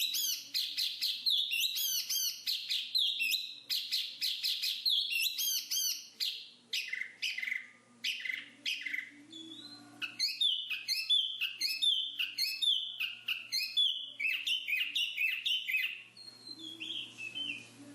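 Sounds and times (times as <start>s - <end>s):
babbler singing whistled notes: 0.0s - 17.7s.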